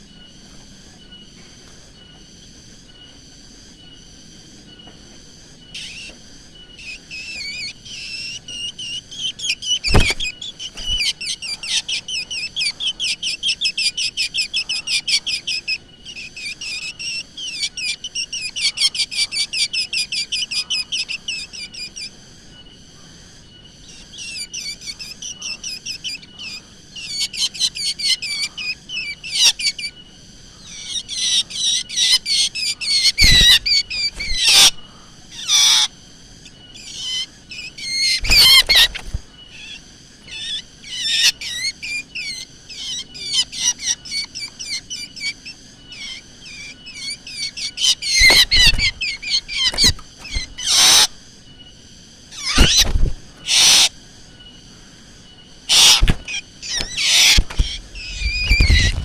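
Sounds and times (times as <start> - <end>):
loud harsh bird calls: 5.4 - 22.2, 23.0 - 59.0
drongo whistling and chattering: 5.5 - 22.7, 23.5 - 59.0.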